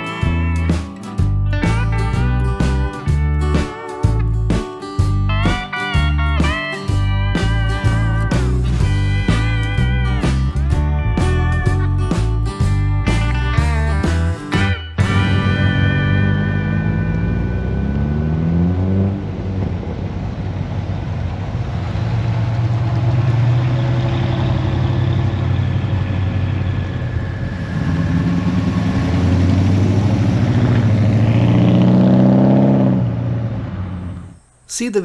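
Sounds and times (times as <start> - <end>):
pickup truck engine accelerating: 0.0 - 34.4.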